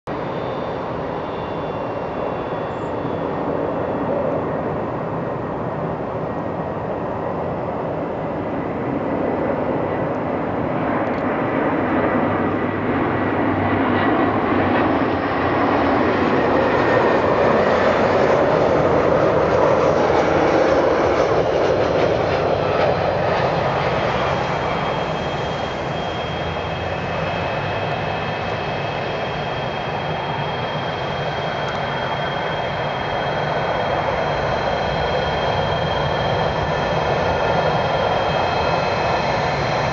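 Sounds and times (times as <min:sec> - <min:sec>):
jet engine rumble with whine: 0:00.1 - 0:39.9.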